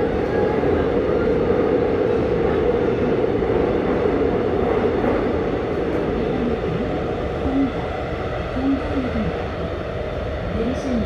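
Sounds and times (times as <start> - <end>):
train rumble and wheel noise: 0.0 - 11.0.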